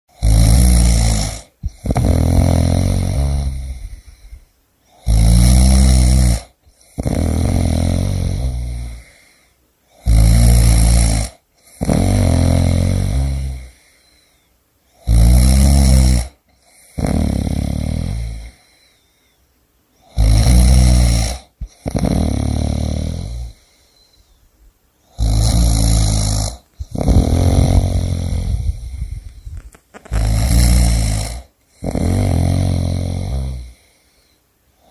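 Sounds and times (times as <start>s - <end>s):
person snoring: 0.1s - 19.1s, 20.0s - 24.4s, 25.0s - 34.9s.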